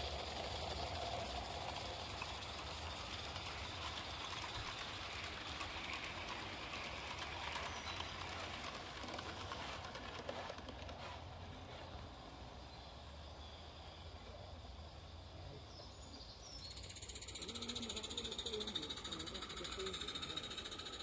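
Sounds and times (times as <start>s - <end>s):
model train wheels clicking over rails: 0.0s - 21.0s.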